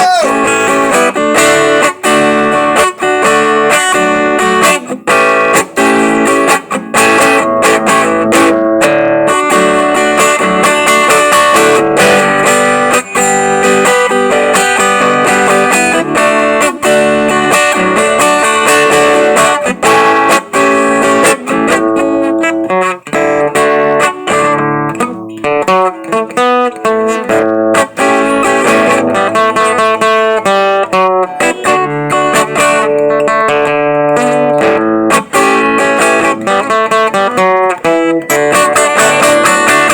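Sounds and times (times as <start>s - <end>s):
acoustic guitar plucking: 0.0s - 39.9s.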